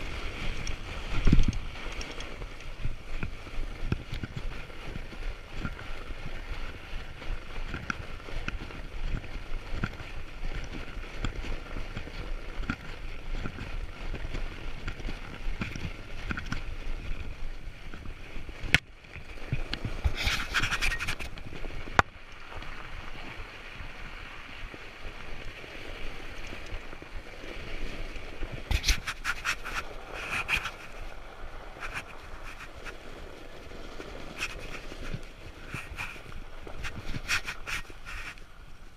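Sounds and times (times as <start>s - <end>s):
bike tyres rolling on snow: 0.0s - 38.9s
wind noise on microphone: 0.0s - 38.9s.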